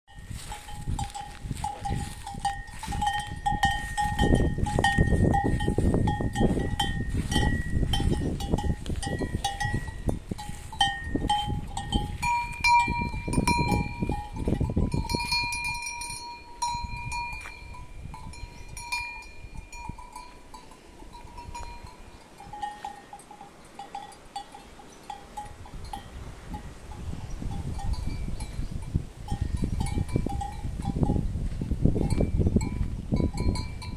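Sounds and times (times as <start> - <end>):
cattle bells clanking: 0.1 - 31.3, 32.0 - 33.9.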